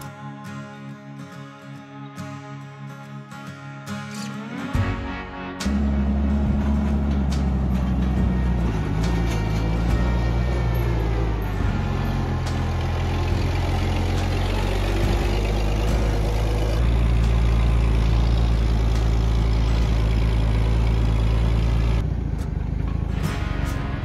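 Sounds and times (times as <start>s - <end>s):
forklift engine running: 4.1s - 24.0s.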